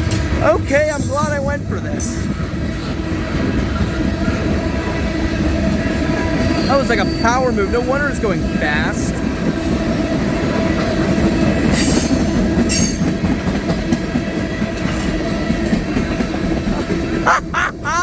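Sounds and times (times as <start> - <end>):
freight train rolling past: 0.0 - 18.0.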